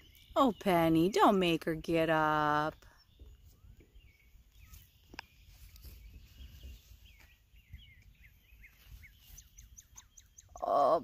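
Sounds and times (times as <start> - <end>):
small birds chirping: 0.0 - 11.0
low wind rumble: 1.5 - 10.6.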